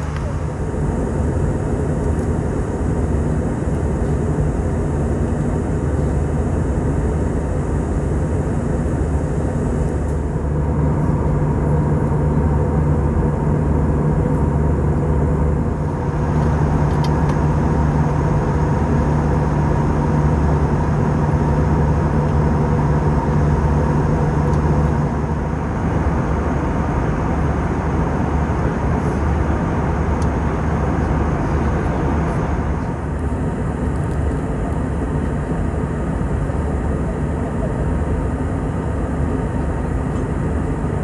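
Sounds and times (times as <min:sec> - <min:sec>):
airliner cabin engine drone: 0:00.0 - 0:41.0.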